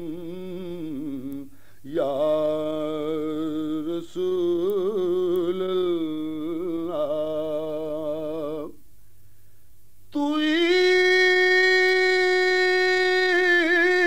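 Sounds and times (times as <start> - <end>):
person singing with vibrato: 0.0 - 8.9, 10.1 - 14.0.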